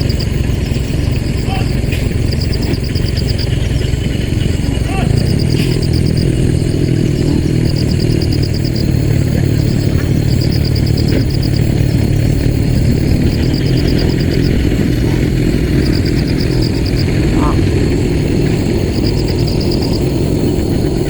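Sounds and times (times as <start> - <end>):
high rapid pulsing chirps: 0.0 - 21.0
motor running steadily: 0.0 - 21.0.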